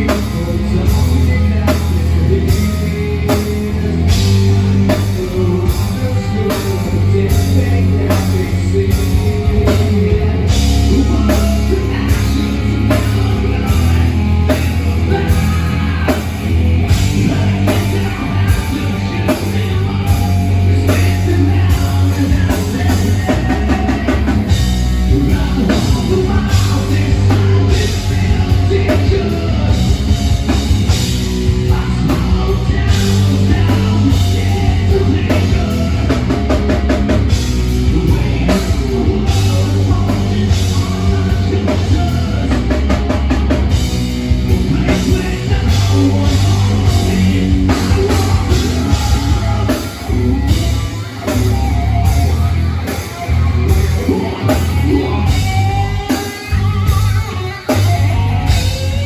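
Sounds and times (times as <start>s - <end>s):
bass guitar: 0.0s - 59.0s
distorted electric guitars: 0.0s - 59.0s
person singing: 0.0s - 59.0s
pounding drum kit: 0.0s - 59.0s.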